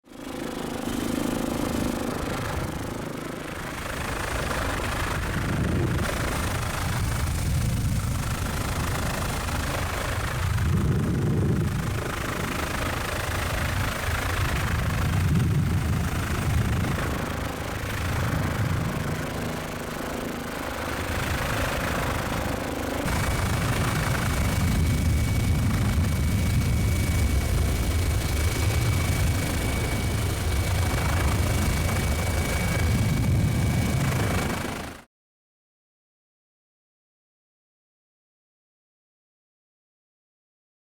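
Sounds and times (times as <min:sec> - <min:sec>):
helicopter engine and rotor drone: 0:00.0 - 0:35.1.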